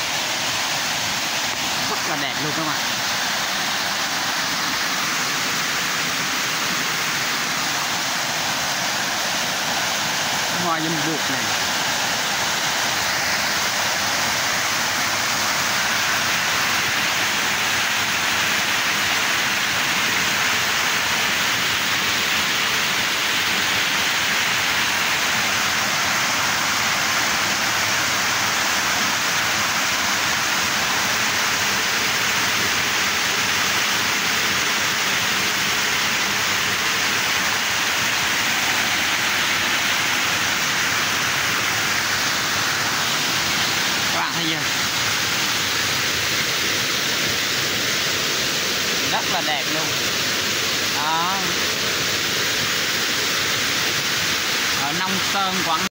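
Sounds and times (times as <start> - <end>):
small waterfall over rocks: 0.0 - 55.9.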